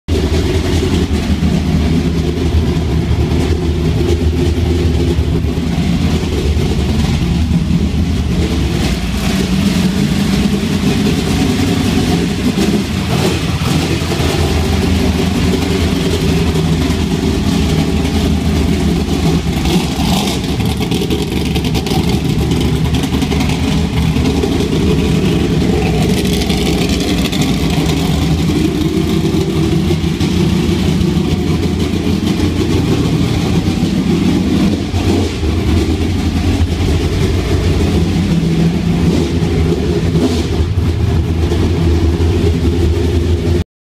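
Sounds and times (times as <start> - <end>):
race car engine running loud: 0.1 - 43.6.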